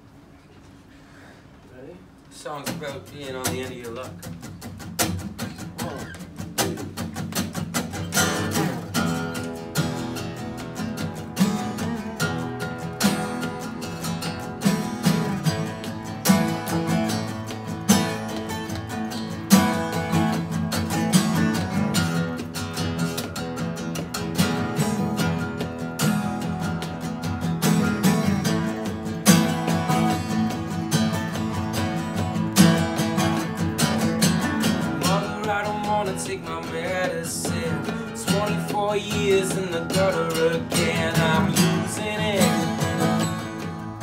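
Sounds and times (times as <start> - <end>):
acoustic guitars strumming: 2.4 - 44.0.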